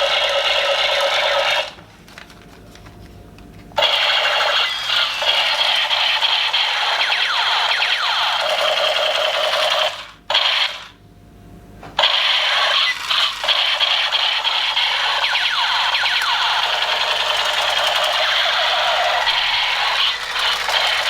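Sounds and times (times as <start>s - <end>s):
toy gun electronic sound effect: 0.0s - 1.7s, 3.8s - 10.9s, 12.0s - 21.0s.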